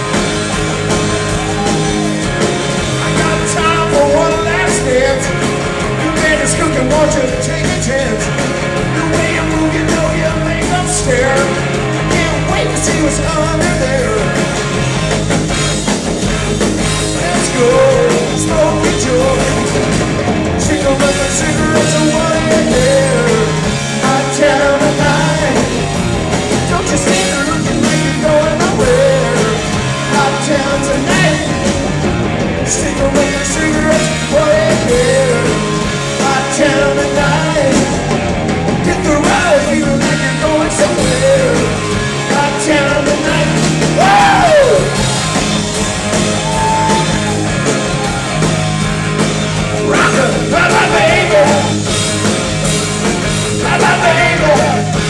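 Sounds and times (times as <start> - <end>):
drum kit: 0.0 - 55.0
electric bass: 0.0 - 55.0
electric lead guitar: 0.0 - 55.0.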